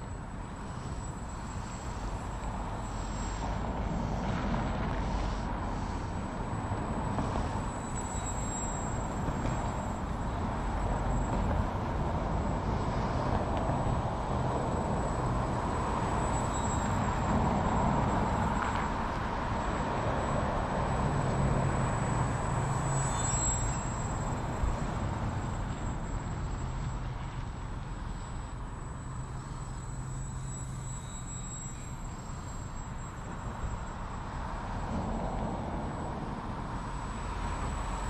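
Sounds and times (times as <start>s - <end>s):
model airplane motor whine: 0.0s - 38.0s.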